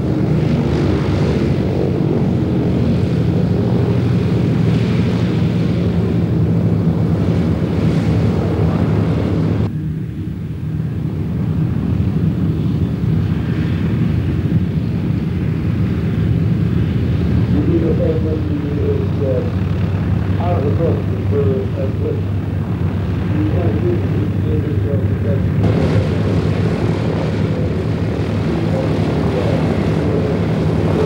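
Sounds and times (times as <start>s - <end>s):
propeller engines droning: 0.0s - 31.0s.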